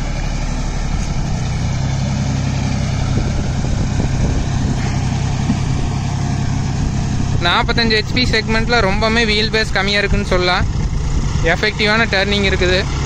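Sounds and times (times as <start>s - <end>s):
rotary tiller churning mud: 0.0s - 8.7s, 10.1s - 13.0s
tractor diesel engine under load: 0.0s - 13.0s.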